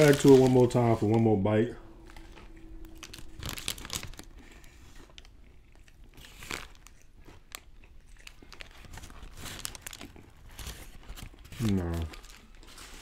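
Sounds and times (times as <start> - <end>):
chewing crunchy fried chicken: 2.1 - 13.0.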